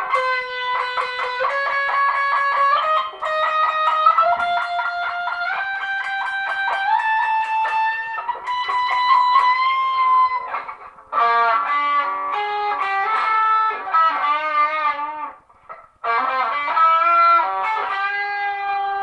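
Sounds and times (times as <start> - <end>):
electric guitar lead: 0.0 - 19.0.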